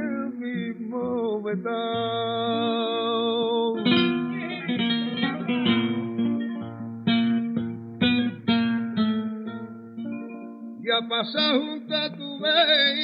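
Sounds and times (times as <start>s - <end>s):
flamenco guitar strummed chords: 0.0s - 13.0s.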